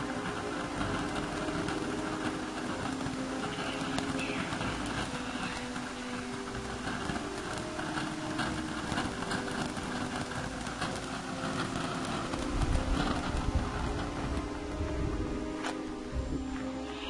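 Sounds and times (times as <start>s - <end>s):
firework crackles: 0.0s - 17.0s
firework fountain hissing: 0.0s - 17.0s.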